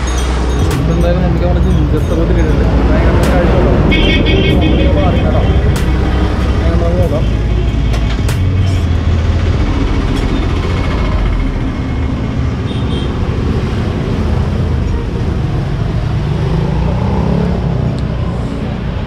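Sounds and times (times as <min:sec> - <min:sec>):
engine speeding up: 0:00.0 - 0:12.6, 0:13.2 - 0:19.0
road traffic passing: 0:00.0 - 0:19.0.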